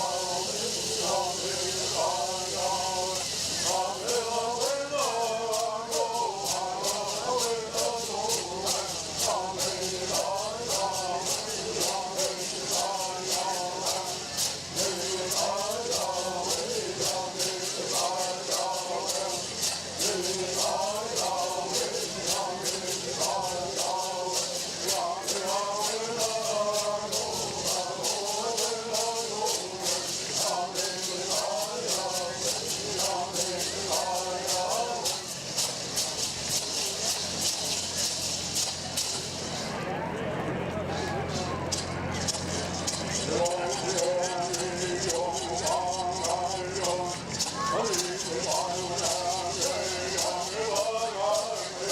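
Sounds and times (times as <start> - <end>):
gourd rattles shaking: 0.0 - 39.8, 41.2 - 51.9
voices chanting: 0.0 - 40.0, 40.8 - 51.9.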